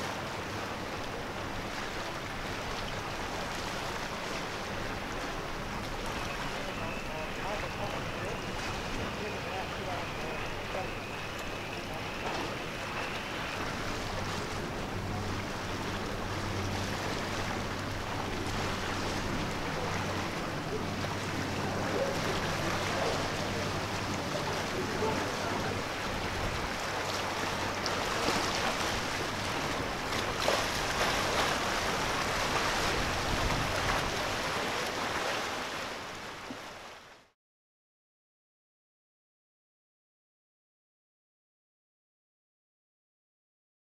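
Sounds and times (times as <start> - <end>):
boat engine hum: 0.0 - 37.3
sea noise: 0.0 - 37.4
wind: 0.0 - 37.4.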